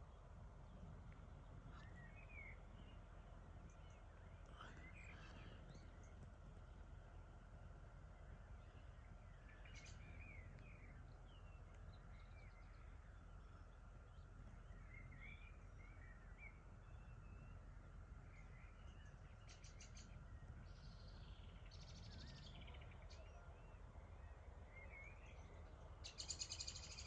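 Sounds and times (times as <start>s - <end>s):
low outdoor rumble: 0.0s - 27.0s
small birds chirping and trilling: 0.0s - 27.0s.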